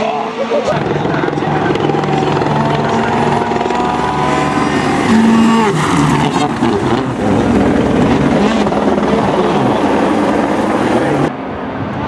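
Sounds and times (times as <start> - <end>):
rally car engine running hard: 0.7 - 11.3.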